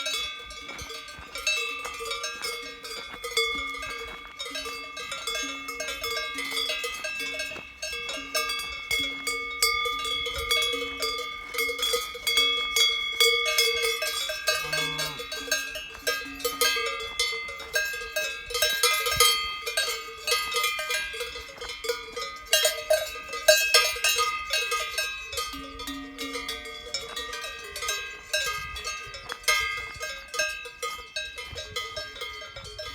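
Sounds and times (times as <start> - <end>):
cowbells clanking: 0.0 - 32.9.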